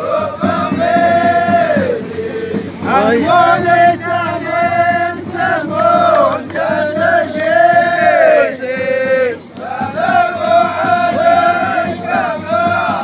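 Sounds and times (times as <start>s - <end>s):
men singing in unison: 0.0s - 13.0s.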